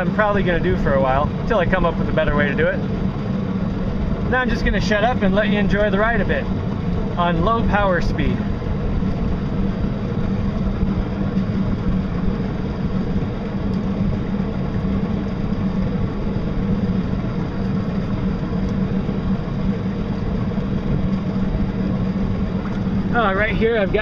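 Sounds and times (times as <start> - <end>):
electric boat motor drone: 0.0 - 24.0
water rushing around hull: 0.0 - 24.0.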